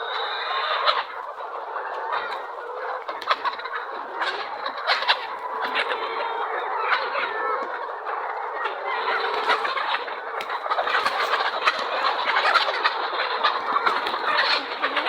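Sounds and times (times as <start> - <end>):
flock of poultry calling: 0.0 - 15.0.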